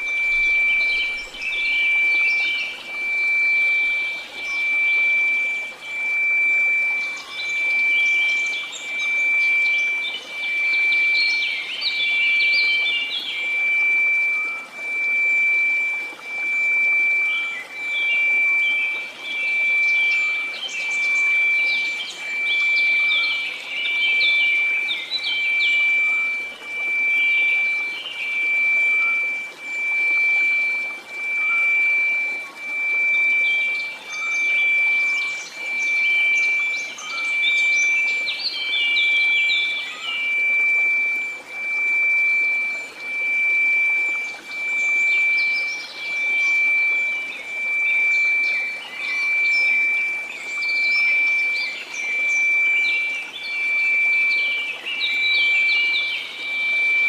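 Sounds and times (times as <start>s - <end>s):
birds chirping: 0.0s - 57.0s
high sine tone: 0.0s - 57.0s.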